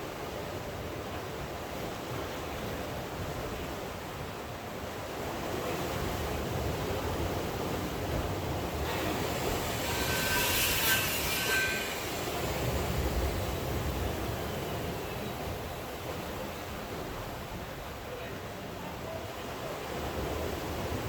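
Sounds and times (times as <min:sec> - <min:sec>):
sea surf: 0:00.0 - 0:21.0.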